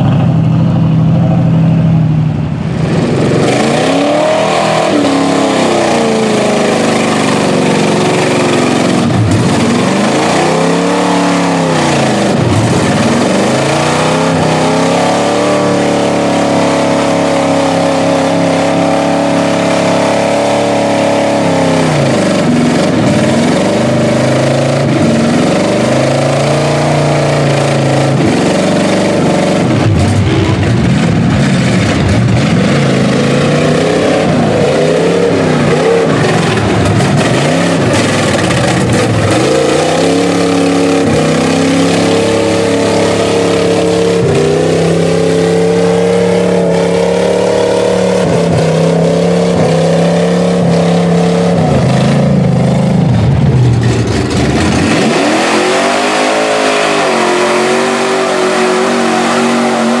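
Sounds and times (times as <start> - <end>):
truck engines revving: 0.0 - 60.0.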